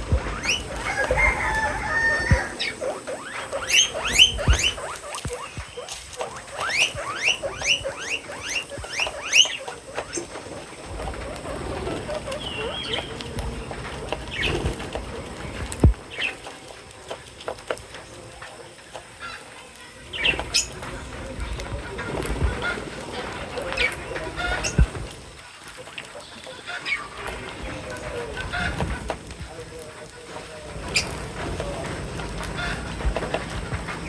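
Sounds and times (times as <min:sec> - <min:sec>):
bird warble: 0:00.0 - 0:34.0.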